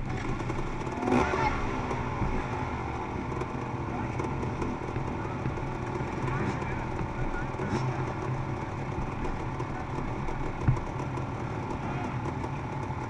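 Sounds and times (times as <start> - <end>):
dirt bike engines running: 0.0 - 13.0
dirt bike passing close: 0.0 - 13.0.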